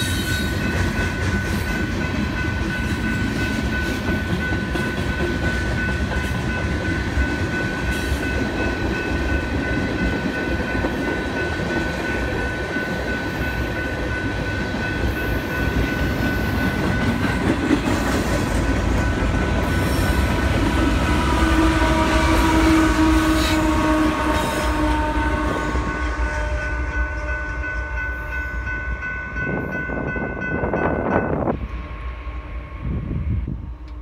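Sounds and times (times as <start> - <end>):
crossing bell ringing: 0.0 - 33.3
freight train rumbling: 0.0 - 34.0.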